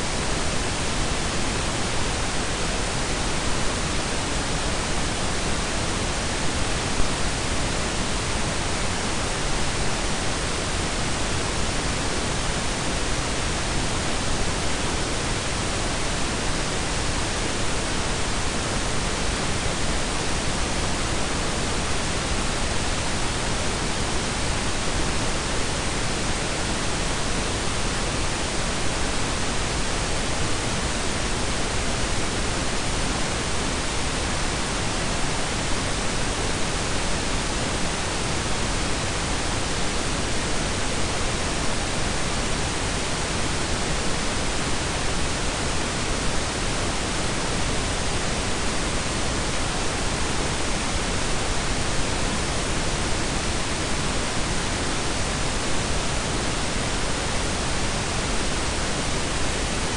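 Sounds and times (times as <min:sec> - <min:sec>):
steady synthetic noise hiss: 0:00.0 - 0:59.9.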